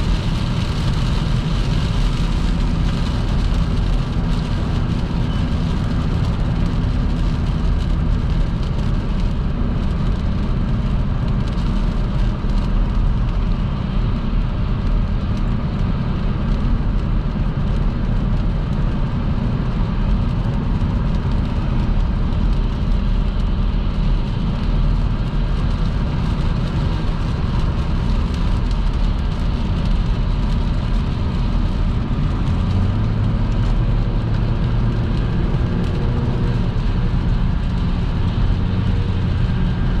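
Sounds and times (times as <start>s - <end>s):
car engine running: 0.0s - 40.0s
tyres rushing on wet road: 0.0s - 40.0s.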